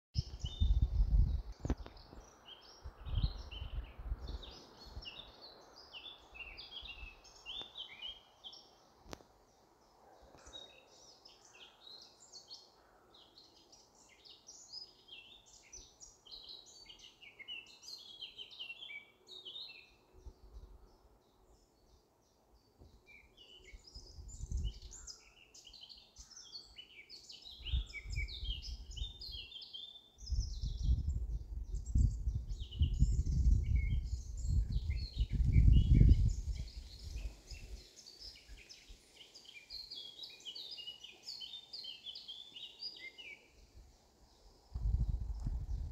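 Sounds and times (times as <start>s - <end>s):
small birds chirping: 0.2s - 45.9s.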